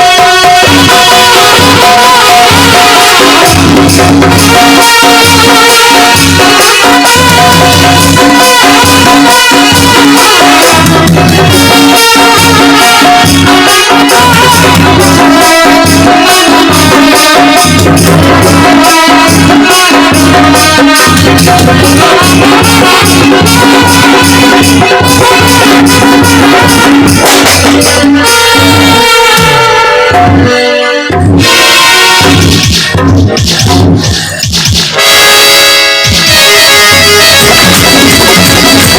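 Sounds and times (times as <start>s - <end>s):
fast percussion strikes: 0.0s - 38.9s
held melody notes: 0.0s - 38.9s.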